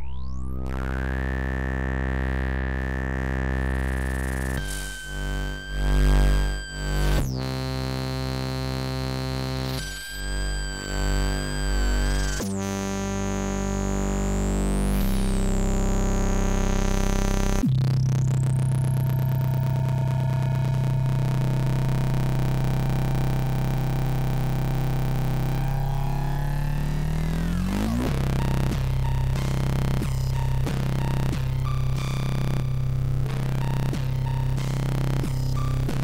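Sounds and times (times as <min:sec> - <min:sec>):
buzzy synthesizer chords: 0:00.0 - 0:36.0.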